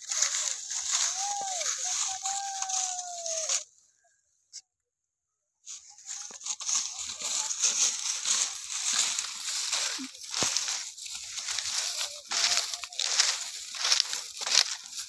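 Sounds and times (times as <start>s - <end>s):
donkey hooves on dry leaves: 0.0s - 3.7s, 5.7s - 15.0s
footsteps crunching dry leaves: 0.0s - 3.7s, 5.7s - 15.0s.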